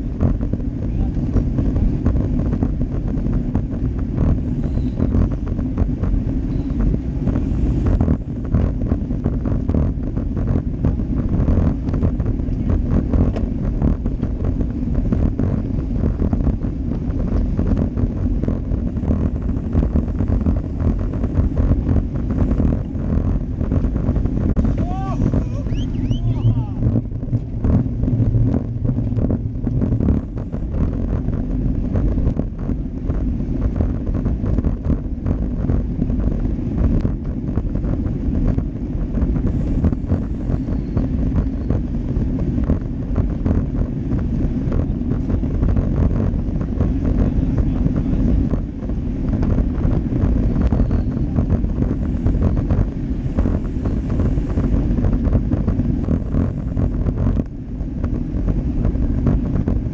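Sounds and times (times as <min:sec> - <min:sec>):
road and tyre noise: 0:00.0 - 0:59.9
wind rumble on microphone: 0:00.0 - 0:59.9.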